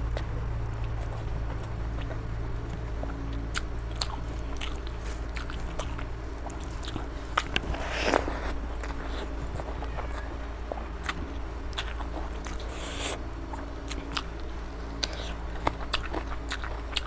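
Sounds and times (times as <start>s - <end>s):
close chewing with mouth smacks: 0.0s - 9.8s, 10.6s - 17.0s
steady low hum: 0.0s - 17.0s.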